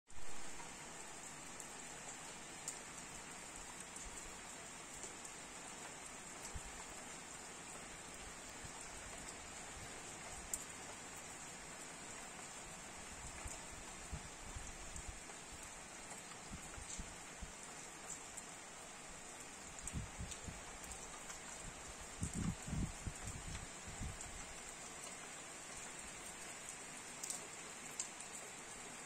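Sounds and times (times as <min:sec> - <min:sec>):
rain falling on wet ground: 0:00.1 - 0:29.0.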